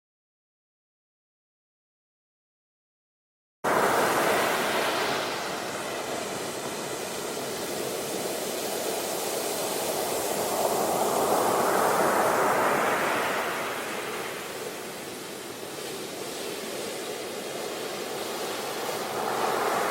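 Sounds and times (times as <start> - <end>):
surf-like rushing noise: 3.7 - 19.9.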